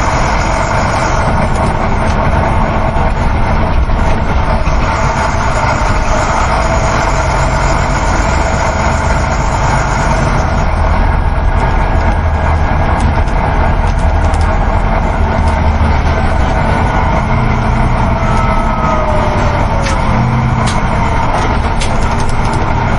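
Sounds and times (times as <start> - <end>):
bus engine drone: 0.0 - 22.9
low road rumble: 0.0 - 22.9.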